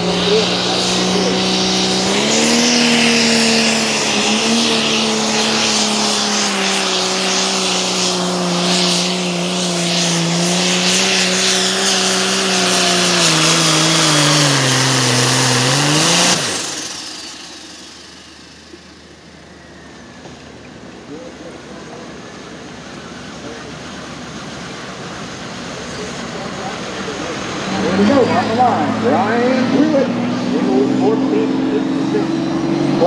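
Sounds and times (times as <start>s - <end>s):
diesel engine at full throttle: 0.0s - 33.0s
high turbo whine: 0.0s - 33.0s.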